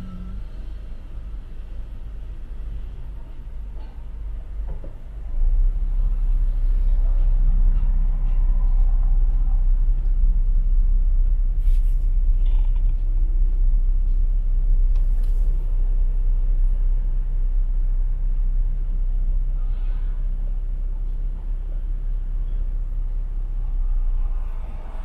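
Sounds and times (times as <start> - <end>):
car driving rumble from inside: 0.0 - 25.0.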